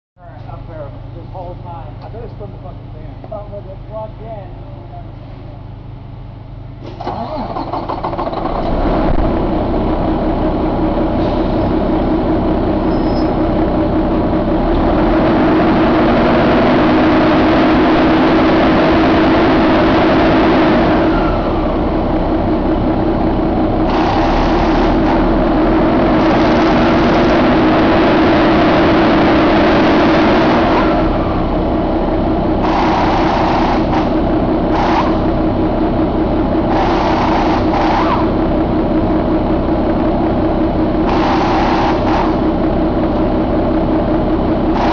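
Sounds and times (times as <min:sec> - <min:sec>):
diesel engine running: 0:00.2 - 0:44.9.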